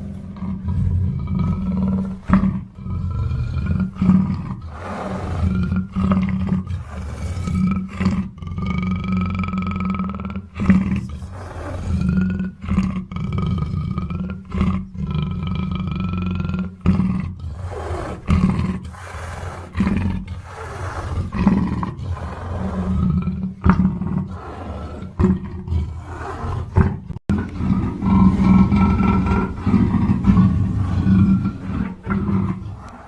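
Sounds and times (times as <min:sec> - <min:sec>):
panther growling and roaring: 0:00.0 - 0:33.0.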